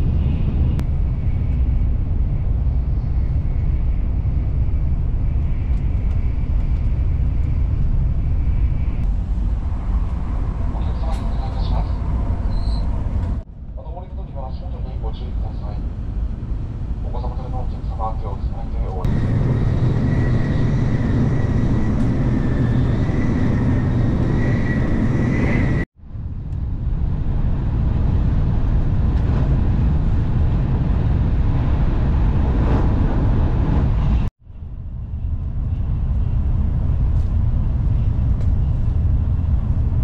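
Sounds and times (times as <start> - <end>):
train rumble inside car: 0.0 - 40.0.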